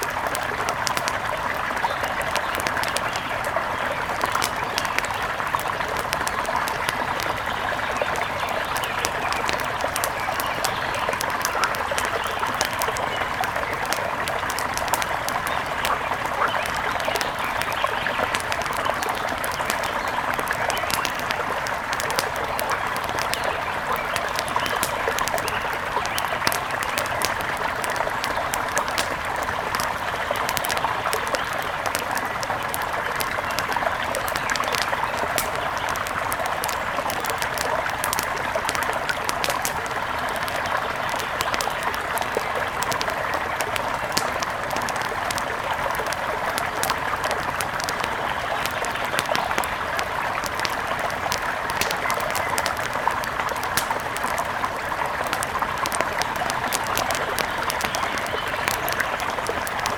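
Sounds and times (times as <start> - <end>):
river water flowing: 0.0 - 59.9
wood fire crackling: 0.0 - 59.9.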